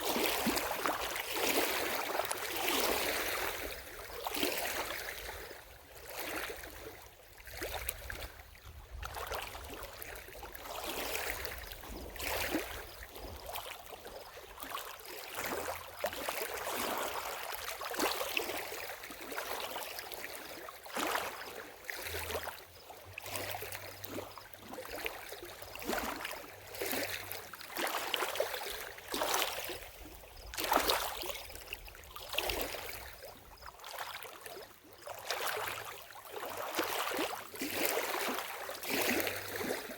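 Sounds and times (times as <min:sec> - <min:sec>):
lake water lapping: 0:00.0 - 0:39.9.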